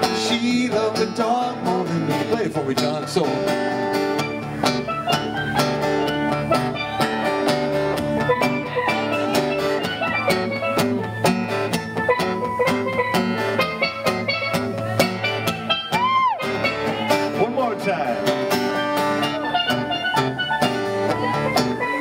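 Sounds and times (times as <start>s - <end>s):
guitar solo: 0.0s - 22.0s
live band playing: 0.0s - 22.0s.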